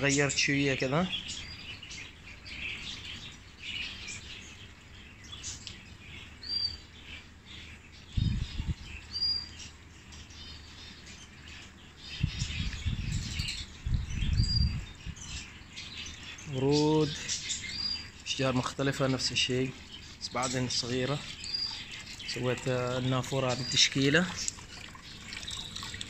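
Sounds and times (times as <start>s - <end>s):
high bird calls: 0.0s - 26.0s
small birds chirping: 0.0s - 26.0s.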